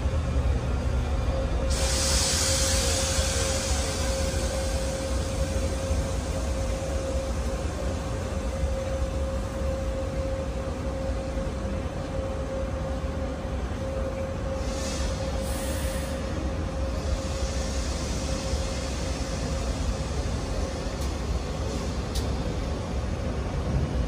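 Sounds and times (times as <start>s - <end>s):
idling train hum and rumble: 0.0s - 24.0s
steady high whine: 0.0s - 24.0s.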